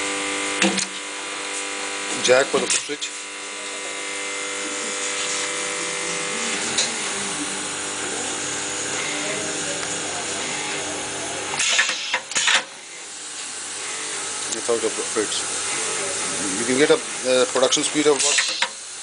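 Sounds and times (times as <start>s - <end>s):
steady machine hum: 0.0s - 19.0s
air-driven strokes with hissing exhaust: 1.4s - 19.0s.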